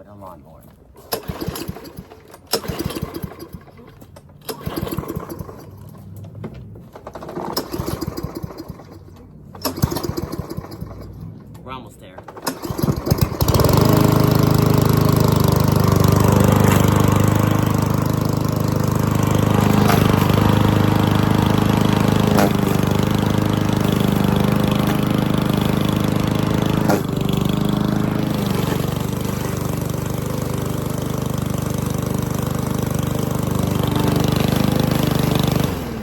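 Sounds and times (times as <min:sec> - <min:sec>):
lawn mower engine running: 0:00.9 - 0:36.0.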